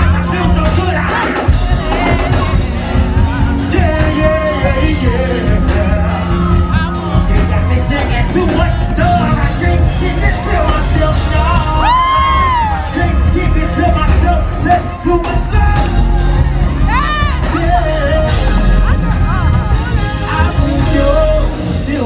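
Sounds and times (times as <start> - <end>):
audience yelling: 0.0 - 21.4
live band playing: 0.0 - 22.0
person singing into microphone: 0.0 - 22.0.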